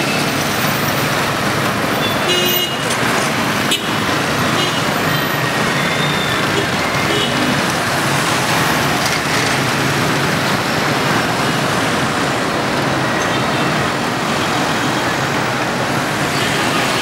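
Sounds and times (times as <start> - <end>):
cars passing: 0.0 - 17.0
motorbikes passing: 0.0 - 17.0.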